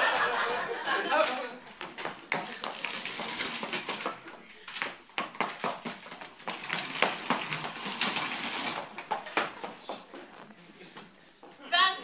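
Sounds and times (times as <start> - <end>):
footsteps on wooden stage: 1.6 - 11.7.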